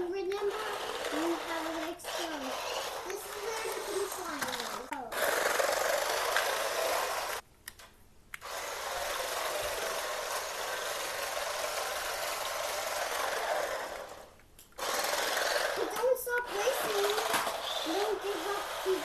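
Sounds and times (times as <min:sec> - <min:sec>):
toy car electric motor whirring: 0:00.0 - 0:07.4, 0:08.4 - 0:19.0
tyres sliding on wooden floor: 0:00.3 - 0:07.4, 0:08.5 - 0:19.0.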